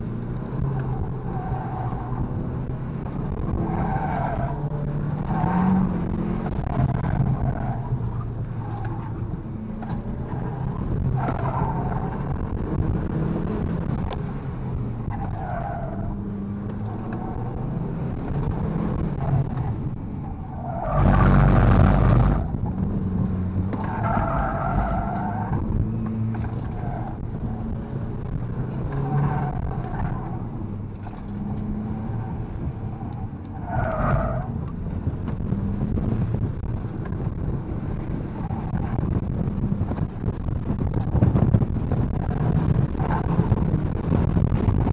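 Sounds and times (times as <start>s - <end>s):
car engine working hard: 0.0s - 44.9s.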